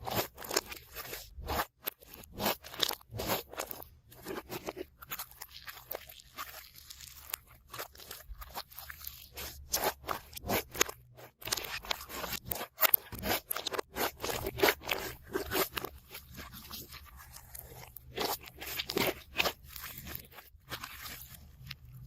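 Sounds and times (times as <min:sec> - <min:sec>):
slime crackling and popping: 0:00.0 - 0:22.0.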